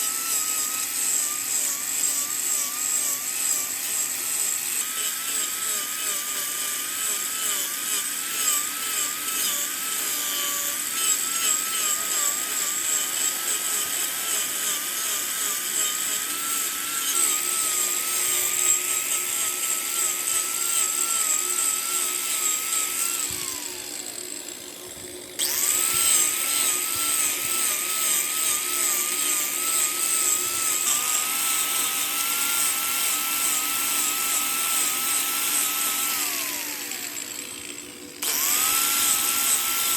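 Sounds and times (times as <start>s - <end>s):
lathe motor whine: 0.0s - 39.9s.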